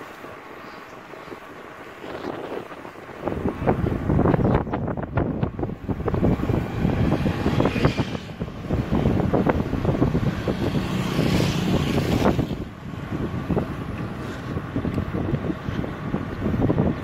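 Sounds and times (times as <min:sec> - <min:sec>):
road rumble: 0:00.0 - 0:17.0
wind buffeting microphone: 0:00.0 - 0:17.0.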